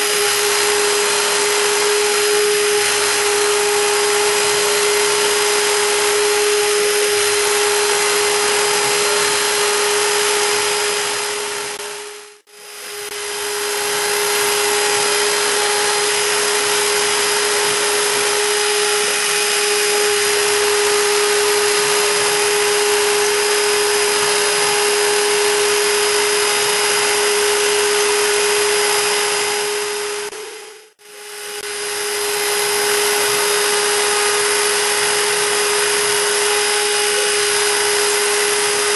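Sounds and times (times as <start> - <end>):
engraving bit cutting wood: 0.0 - 38.9
router spindle high whine: 0.0 - 38.9.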